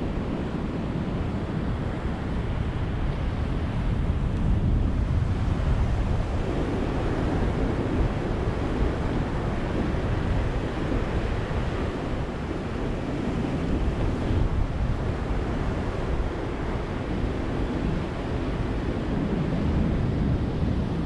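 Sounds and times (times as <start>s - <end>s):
deep surf rumble: 0.0s - 21.0s
waves breaking on a beach: 0.0s - 21.0s.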